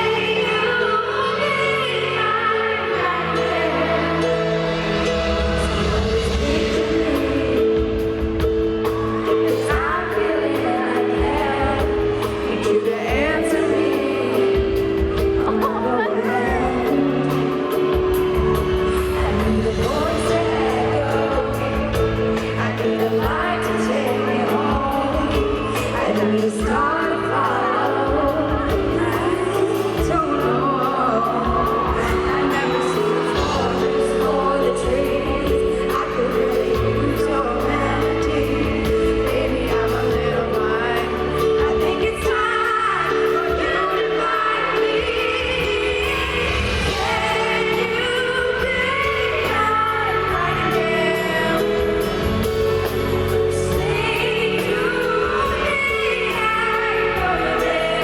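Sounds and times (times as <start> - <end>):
woman singing a ballad: 0.0 - 58.0
band accompaniment: 2.9 - 58.0.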